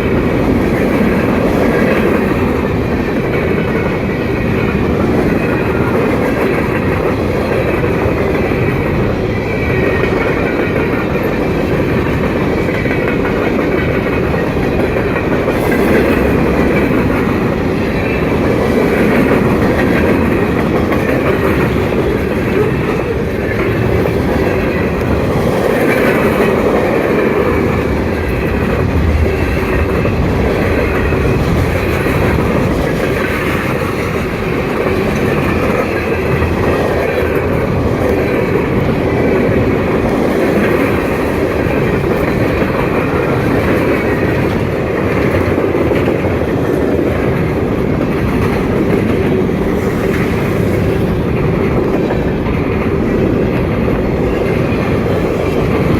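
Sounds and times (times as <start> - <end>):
train wheels on rails: 0.0 - 55.9.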